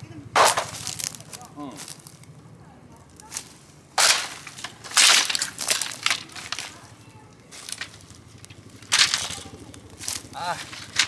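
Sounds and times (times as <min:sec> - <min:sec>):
bonfire wood crackling: 0:00.0 - 0:11.0.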